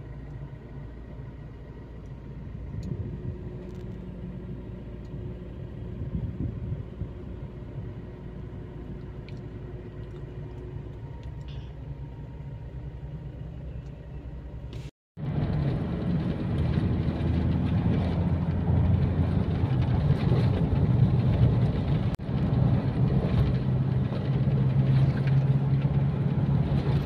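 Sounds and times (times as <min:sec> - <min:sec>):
car engine rumble: 0:00.0 - 0:27.0
road noise inside car: 0:00.0 - 0:27.0.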